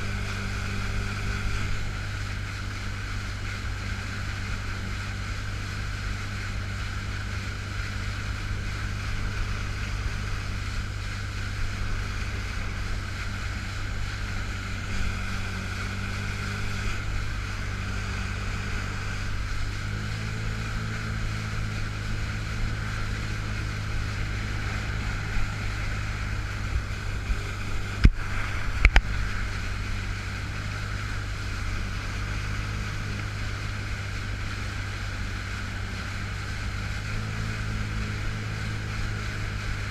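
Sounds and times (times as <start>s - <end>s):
personal watercraft engine running: 0.0s - 39.9s
wind and spray hiss: 0.0s - 39.9s.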